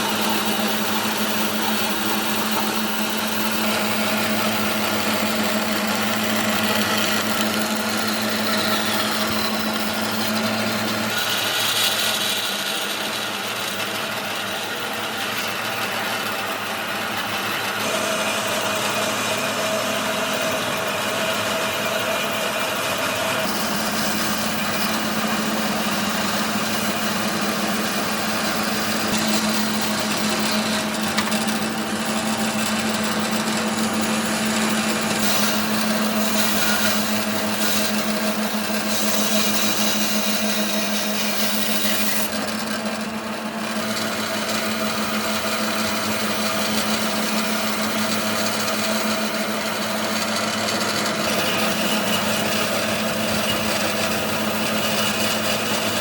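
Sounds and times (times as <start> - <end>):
woodworking power tool humming: 0.0 - 56.0.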